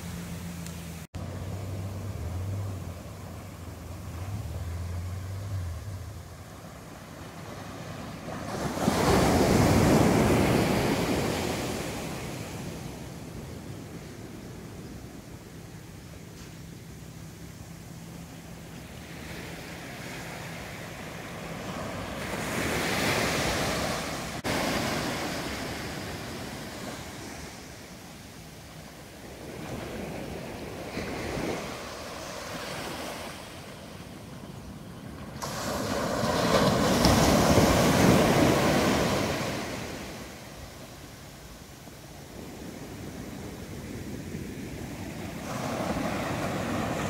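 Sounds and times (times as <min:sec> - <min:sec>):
small waves washing up shore: 0:00.0 - 0:15.4, 0:17.6 - 0:47.0.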